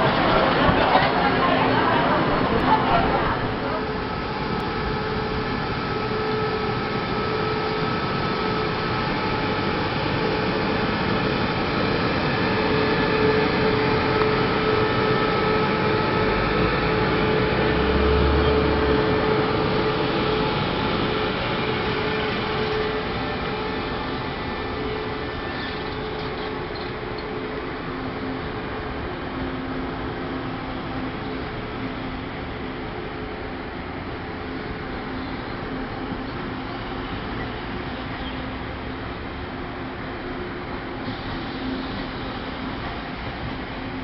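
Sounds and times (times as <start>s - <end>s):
train rail rumble: 0.0s - 44.0s.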